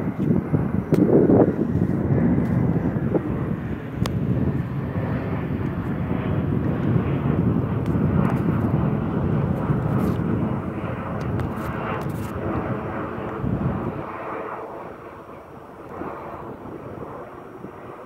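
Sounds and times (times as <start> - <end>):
jet airliner engines roaring: 0.0 - 18.0.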